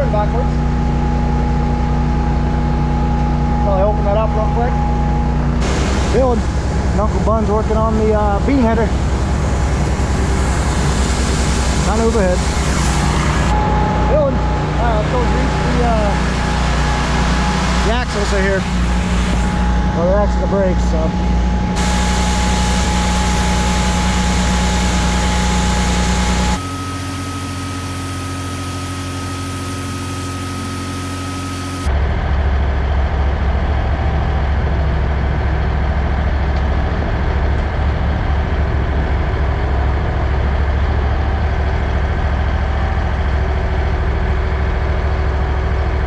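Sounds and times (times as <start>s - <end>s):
heavy diesel machinery humming: 0.0s - 46.0s
thin steady whine: 0.0s - 46.0s.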